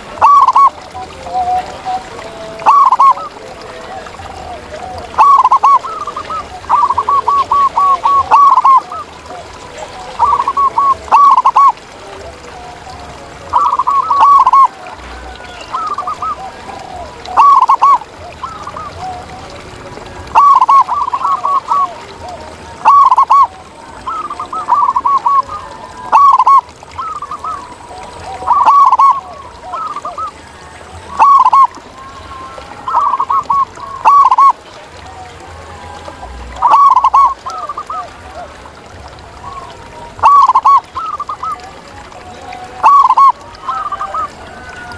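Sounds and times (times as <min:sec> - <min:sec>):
doves cooing: 0:00.0 - 0:44.9.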